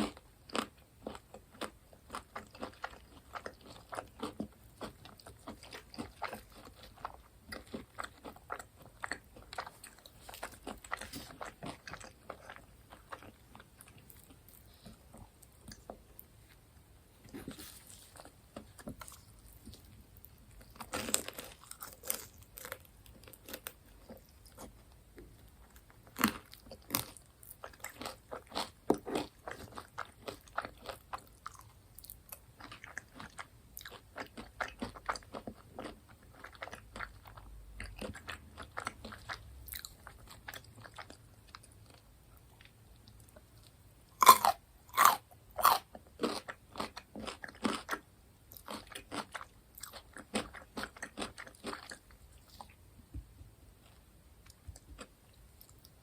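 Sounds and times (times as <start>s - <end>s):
chewing crisp fried food: 0.0s - 16.6s, 17.3s - 52.8s, 53.7s - 56.0s.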